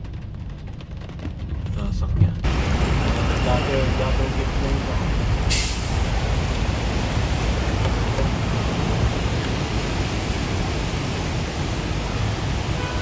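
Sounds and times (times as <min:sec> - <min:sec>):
car driving in heavy rain: 0:00.0 - 0:13.0.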